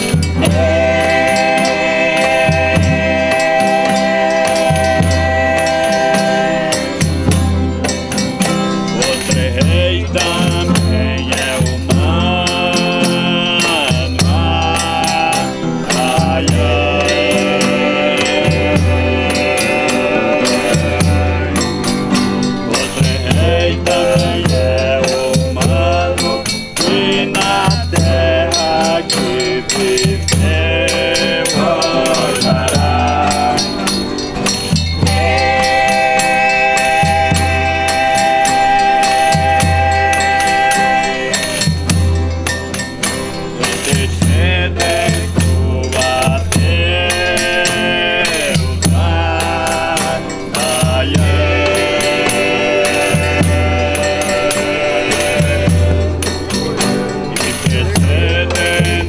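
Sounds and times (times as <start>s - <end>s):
group singing a devotional song: 0.0s - 59.0s
strummed guitars: 0.0s - 59.0s
tambourine jingles: 0.0s - 59.0s.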